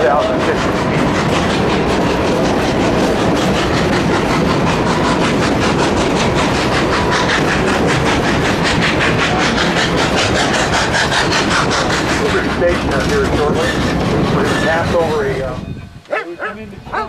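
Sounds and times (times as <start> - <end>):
steam train chugging: 0.0 - 17.0.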